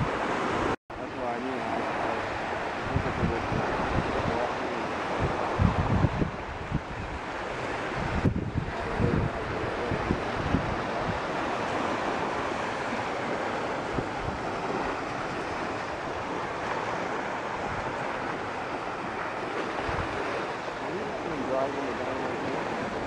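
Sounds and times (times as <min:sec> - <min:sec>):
small waves washing onto beach: 0:00.0 - 0:23.0
wind buffeting microphone: 0:00.0 - 0:23.0.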